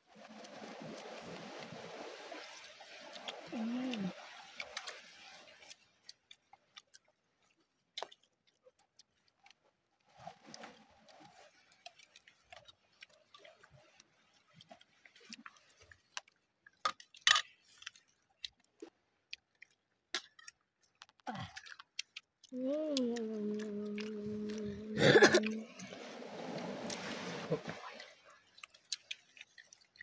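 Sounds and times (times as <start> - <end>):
chewing and lip-smacking: 0.2 - 25.9, 26.6 - 30.0.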